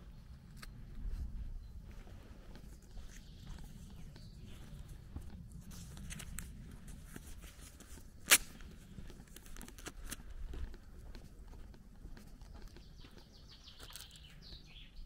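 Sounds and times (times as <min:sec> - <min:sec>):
footsteps on dirt: 0:00.0 - 0:15.0.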